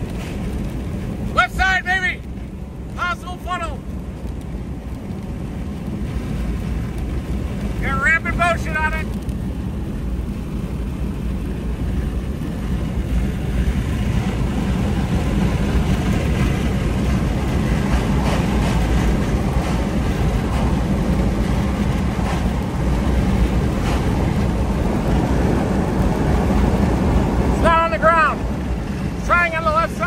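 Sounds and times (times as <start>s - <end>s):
car driving on wet road: 0.0s - 30.0s.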